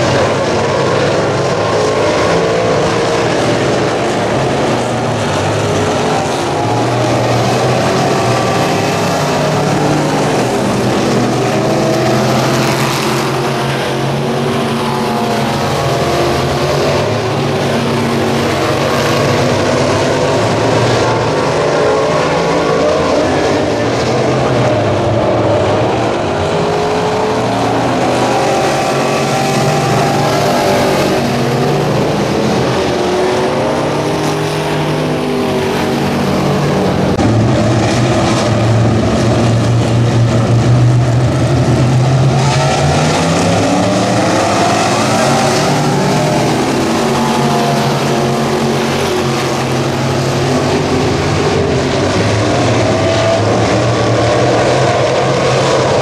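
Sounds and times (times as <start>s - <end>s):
race car engines: 0.0s - 56.0s.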